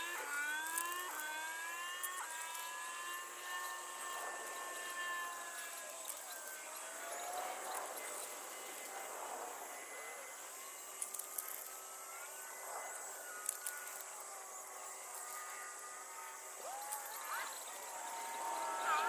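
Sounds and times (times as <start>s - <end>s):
gravel clicks: 0.0s - 19.0s
toy excavator motor whine: 0.0s - 19.0s.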